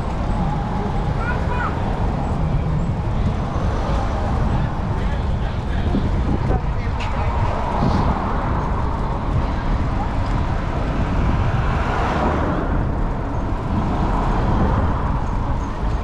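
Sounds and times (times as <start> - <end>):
faint voices: 0.0 - 16.0
road traffic: 0.0 - 16.0
wind rumble on microphone: 0.0 - 16.0.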